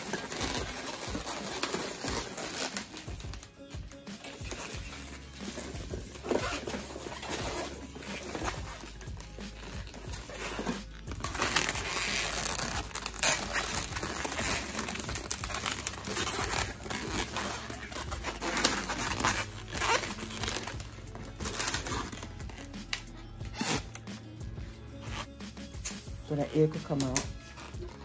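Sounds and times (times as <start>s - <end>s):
balloons rubbing and squeaking: 0.0s - 24.2s, 25.0s - 28.0s.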